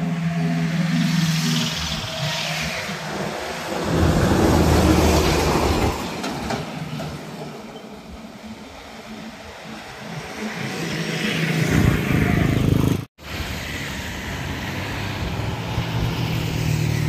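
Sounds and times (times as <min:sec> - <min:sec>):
vehicle approaching: 0:00.0 - 0:07.0, 0:08.4 - 0:17.0.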